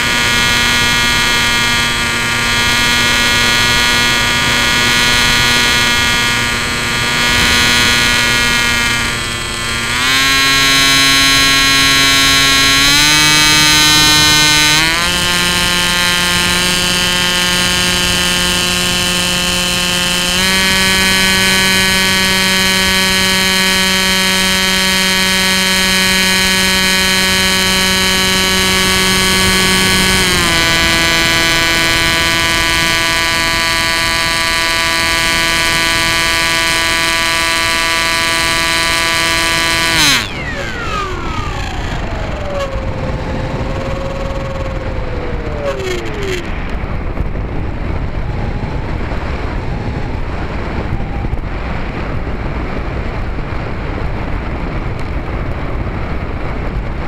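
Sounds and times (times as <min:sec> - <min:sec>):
electric motor and propeller whining: 0:00.0 - 0:57.0.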